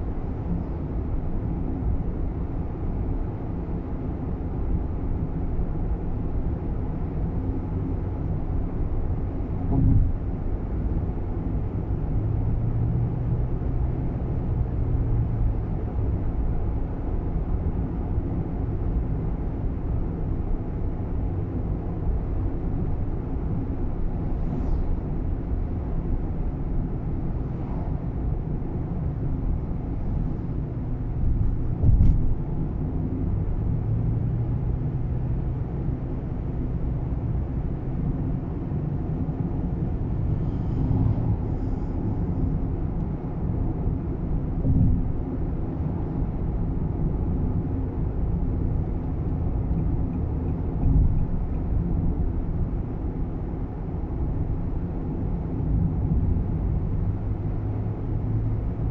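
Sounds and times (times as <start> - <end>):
car cabin engine and road rumble: 0.0 - 58.9.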